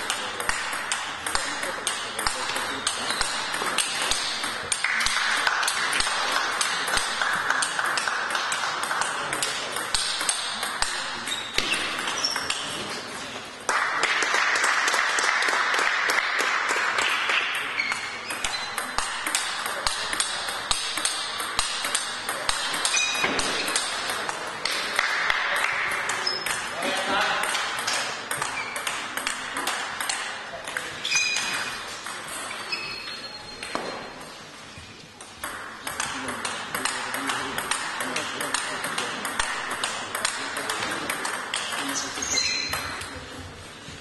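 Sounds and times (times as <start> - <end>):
table tennis ball hits: 0.0 - 13.2, 13.8 - 34.3, 35.2 - 43.5.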